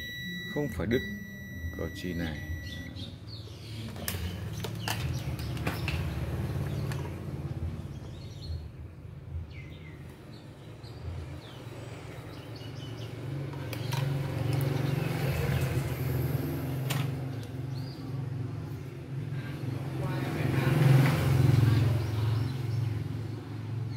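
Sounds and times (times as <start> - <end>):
small birds chirping: 0.1 - 19.3.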